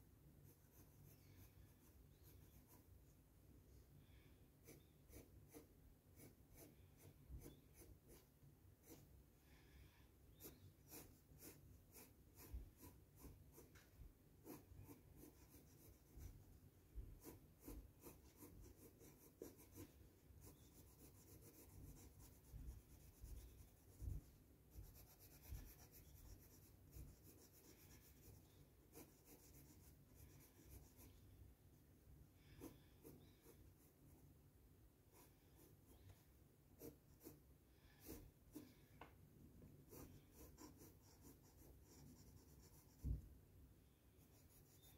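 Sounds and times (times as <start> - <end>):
pencil shading on paper: 0.4 - 3.1, 4.6 - 9.2, 10.4 - 31.2, 32.4 - 34.2, 35.0 - 36.2, 36.8 - 38.8, 39.8 - 43.2.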